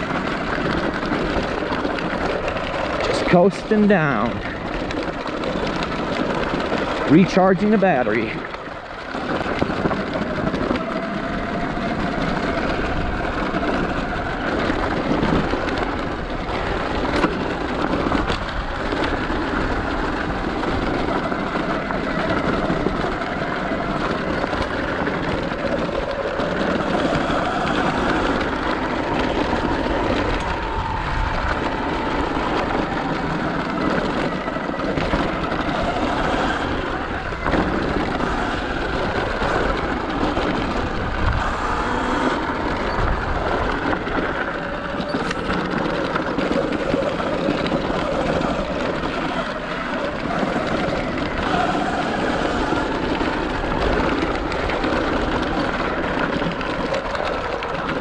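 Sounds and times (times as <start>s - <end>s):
dirt bike riding noise: 0.0s - 58.0s.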